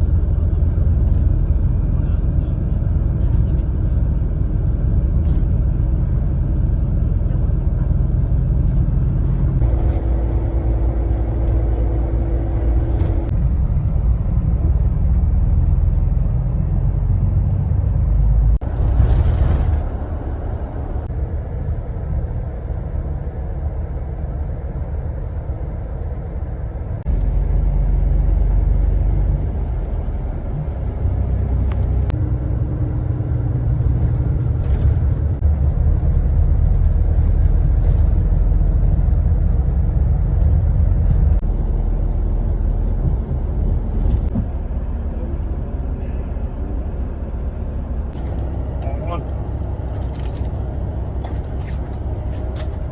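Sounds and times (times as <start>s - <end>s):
vehicle engine and road rumble: 0.0s - 52.9s.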